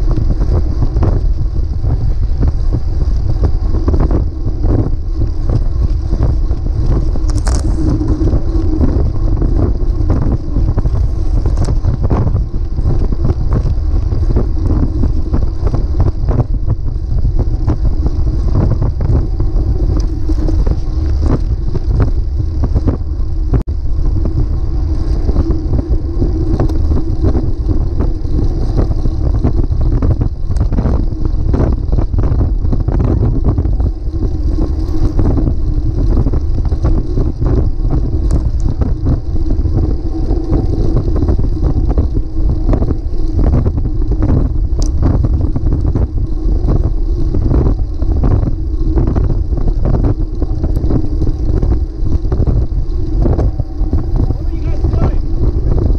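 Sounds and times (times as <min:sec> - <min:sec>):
tyre noise on asphalt: 0:00.0 - 0:55.9
wind buffeting microphone: 0:00.0 - 0:55.9.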